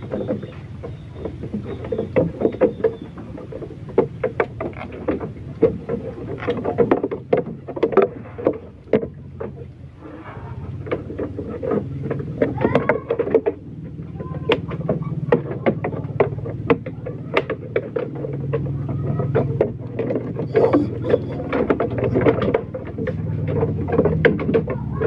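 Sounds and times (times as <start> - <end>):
clicks and knocks on wooden floor: 0.0 - 9.8, 10.6 - 25.0
low motor hum: 0.0 - 25.0.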